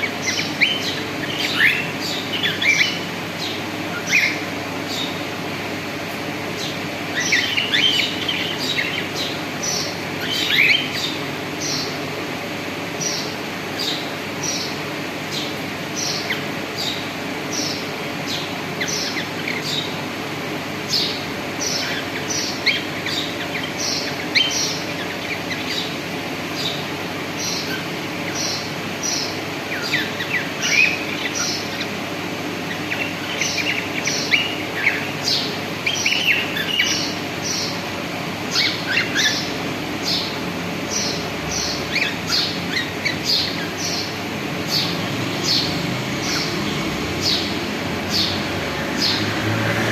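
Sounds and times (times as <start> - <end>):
cockatiels chirping: 0.0 - 5.2, 6.6 - 12.0, 13.0 - 20.0, 20.8 - 49.2
lower chattering bird calls: 0.0 - 49.4.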